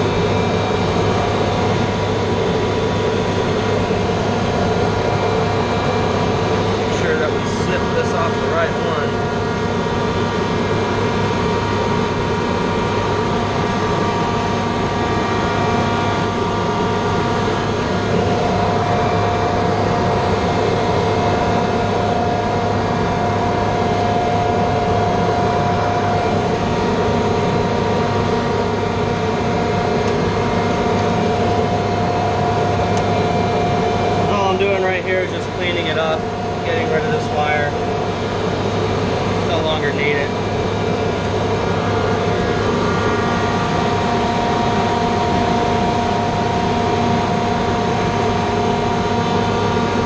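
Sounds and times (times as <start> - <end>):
machinery droning: 0.0 - 50.0
steady whining tones: 0.0 - 50.0.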